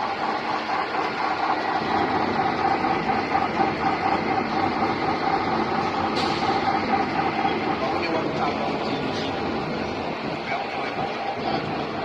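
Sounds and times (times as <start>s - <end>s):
lathe mechanical drone: 0.0s - 12.0s.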